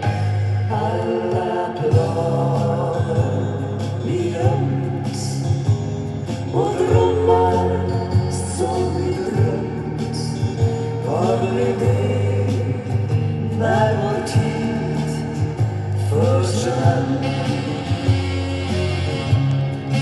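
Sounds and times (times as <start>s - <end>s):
band with bass and drums: 0.0s - 20.0s
person singing pop song: 0.0s - 20.0s.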